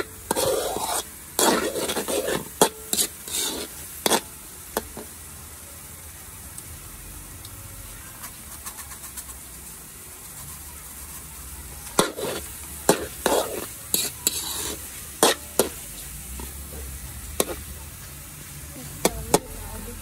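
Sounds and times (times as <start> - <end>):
metal spatula scraping a wok: 0.0 - 5.2, 8.0 - 20.0
faint sizzle: 0.0 - 20.0.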